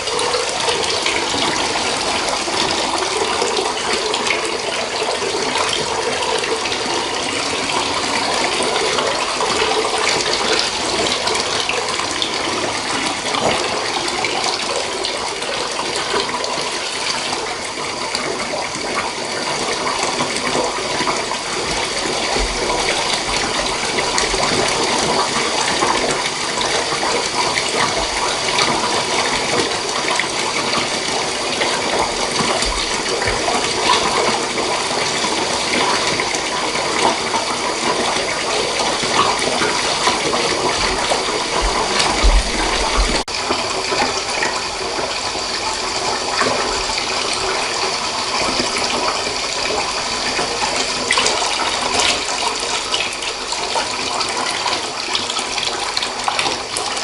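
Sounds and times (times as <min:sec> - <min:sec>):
tap water filling bathtub: 0:00.0 - 0:57.0.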